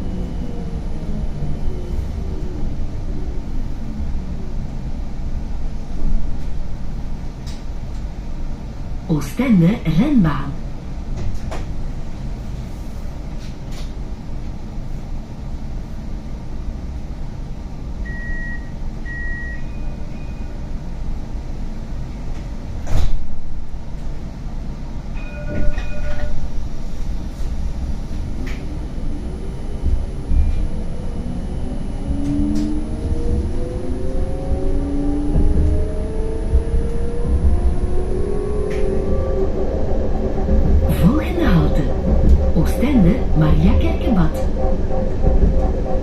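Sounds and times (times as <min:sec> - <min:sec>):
tram rumbling: 0:00.0 - 0:46.0.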